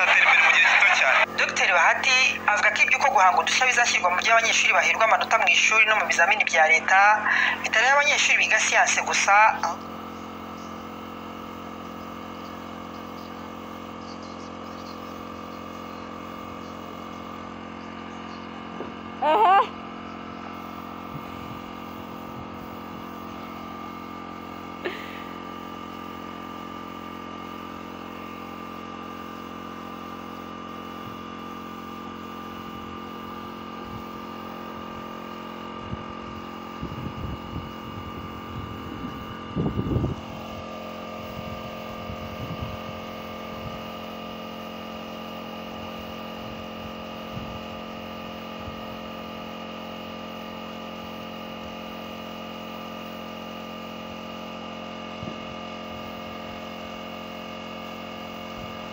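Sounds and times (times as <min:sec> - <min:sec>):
air compressor humming: 0:00.0 - 0:58.9.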